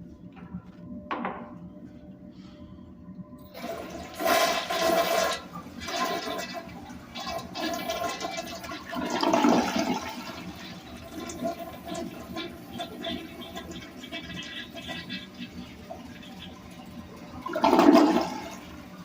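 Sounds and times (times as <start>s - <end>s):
toilet flushing water rush: 3.5s - 19.0s.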